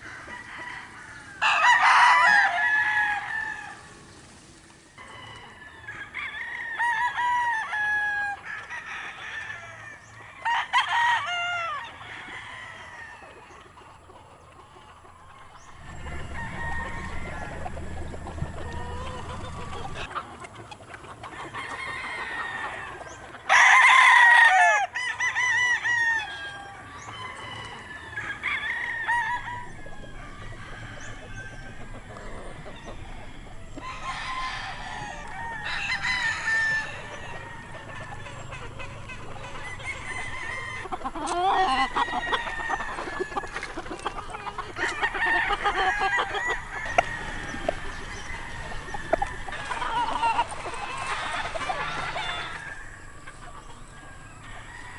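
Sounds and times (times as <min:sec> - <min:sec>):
roosters crowing and clucking: 0:00.0 - 0:54.9.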